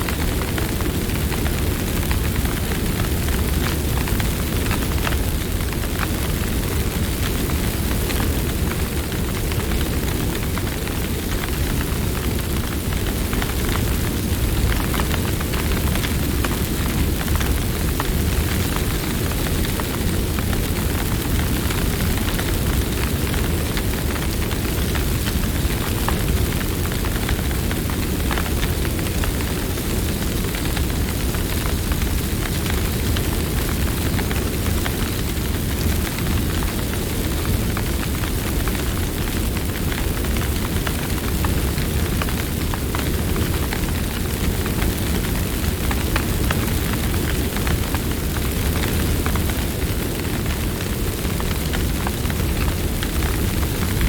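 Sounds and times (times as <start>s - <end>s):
burning wood crackling and popping: 0.0s - 54.0s
rush of campfire flames: 0.0s - 54.0s.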